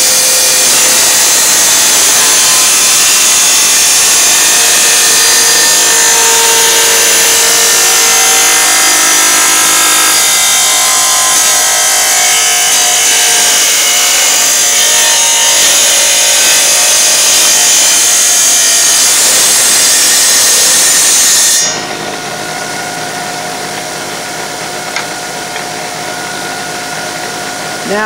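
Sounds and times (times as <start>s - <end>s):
saw running free: 0.0s - 26.8s
tile saw cutting tile: 0.0s - 28.0s.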